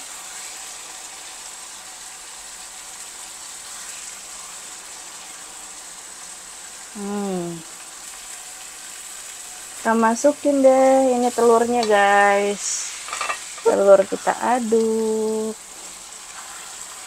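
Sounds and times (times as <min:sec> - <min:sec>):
oil sizzling in frying pan: 0:00.0 - 0:17.0.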